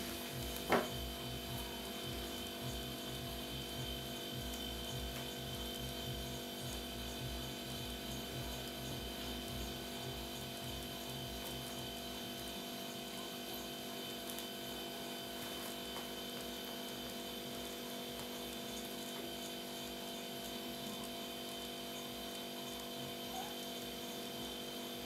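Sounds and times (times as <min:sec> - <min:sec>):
electrical hum with tones: 0:00.0 - 0:25.0.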